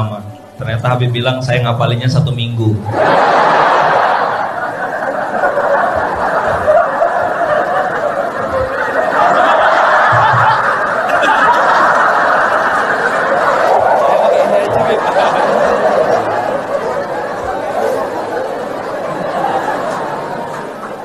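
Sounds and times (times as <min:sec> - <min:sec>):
audience laughing: 0:02.8 - 0:21.0.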